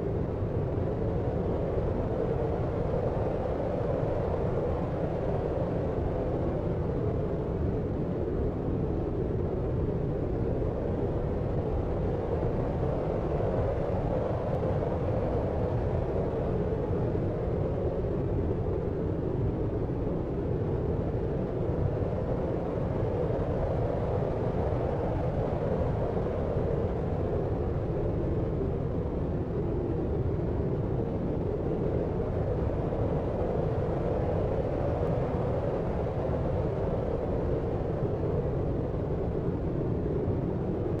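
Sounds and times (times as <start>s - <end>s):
brown noise rumble with soft hiss: 0.0s - 41.0s.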